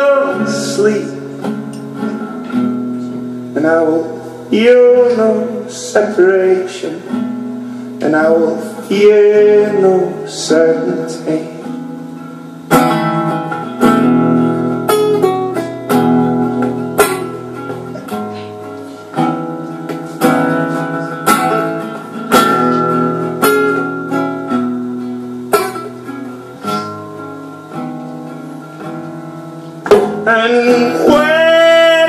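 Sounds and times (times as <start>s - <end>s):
acoustic guitar chords strummed: 0.0s - 32.0s.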